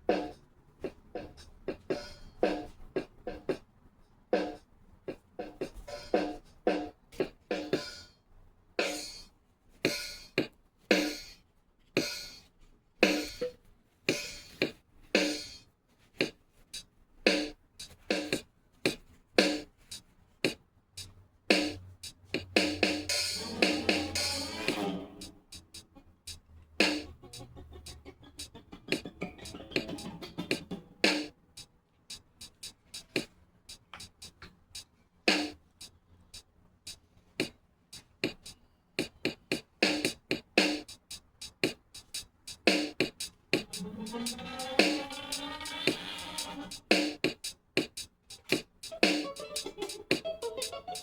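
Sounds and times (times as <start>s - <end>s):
rhythmic percussive music: 0.0s - 3.6s, 4.4s - 8.1s, 8.8s - 9.3s, 9.9s - 11.4s, 12.0s - 15.6s, 16.7s - 20.0s, 21.0s - 34.4s, 35.3s - 35.9s, 37.4s - 51.0s.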